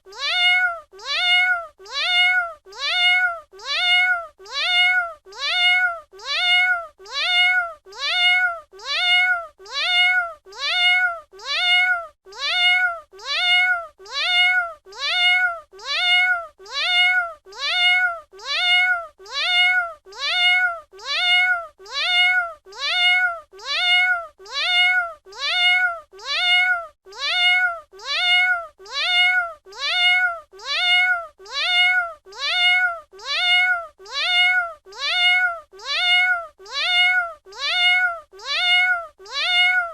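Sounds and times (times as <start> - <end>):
cat meowing: 0.1 - 39.9.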